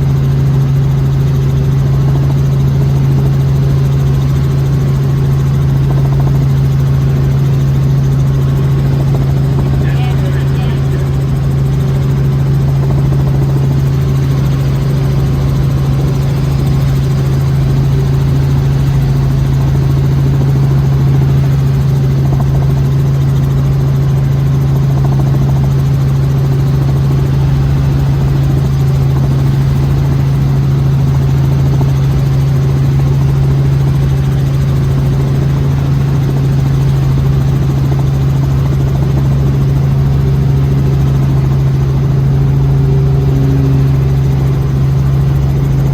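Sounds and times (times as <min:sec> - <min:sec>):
helicopter engine and rotor drone: 0:00.0 - 0:45.9.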